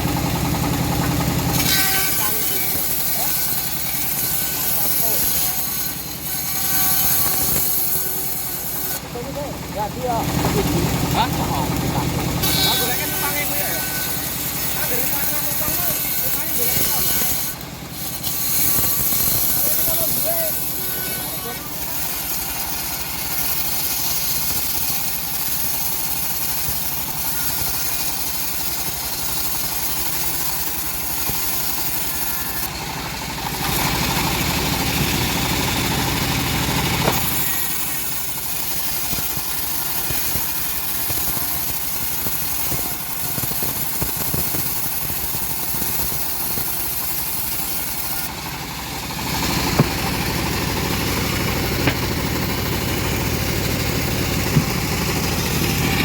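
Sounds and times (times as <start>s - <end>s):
bandsaw mill sawing wood: 0.0s - 56.0s.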